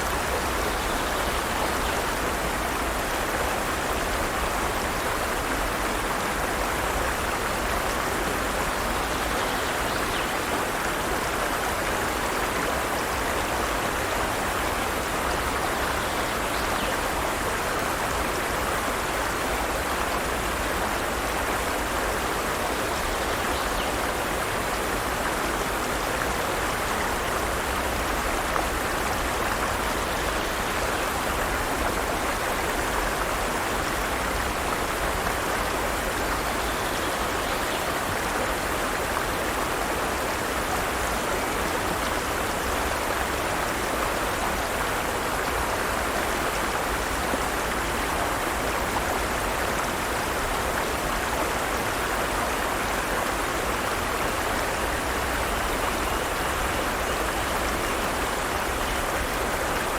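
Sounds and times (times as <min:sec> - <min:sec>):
water flowing over rocks: 0:00.0 - 0:59.9.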